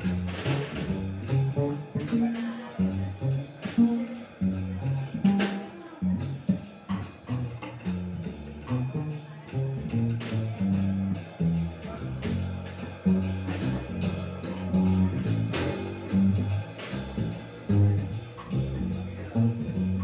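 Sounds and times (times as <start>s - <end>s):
drum kit cymbals and drums: 0.0s - 20.0s
plucked double bass: 0.0s - 20.0s.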